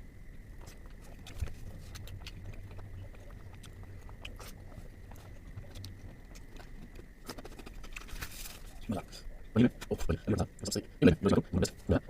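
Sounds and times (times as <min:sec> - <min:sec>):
wet chewing mouth clicks: 0:00.6 - 0:10.7.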